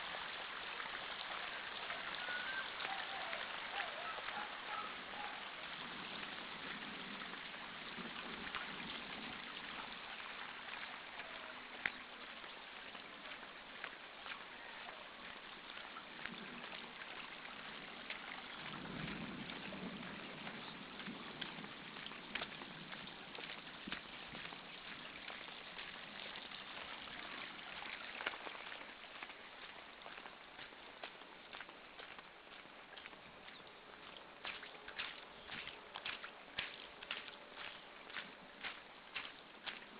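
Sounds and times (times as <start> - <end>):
rainwater runoff rushing: 0.0 - 39.9.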